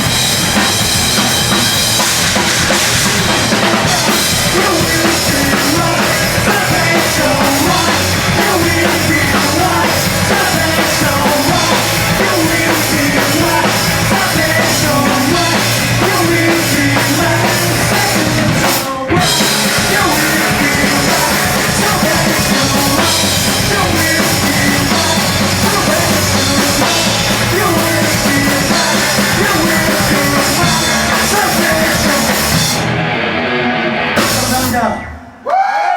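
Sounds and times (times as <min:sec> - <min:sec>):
pounding drums: 0:00.0 - 0:32.9
punk band playing: 0:00.0 - 0:35.2
distorted guitars: 0:00.0 - 0:35.4.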